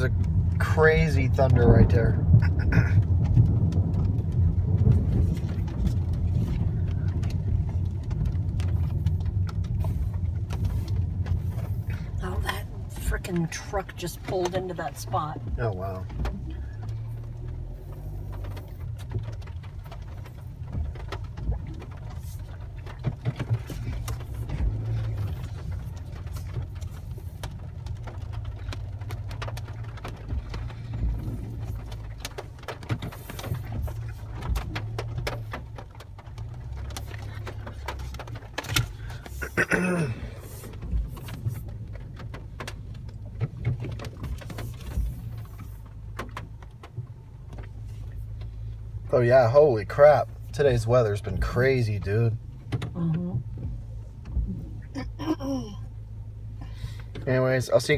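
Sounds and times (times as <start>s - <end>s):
car cabin rumble: 0.0s - 57.9s.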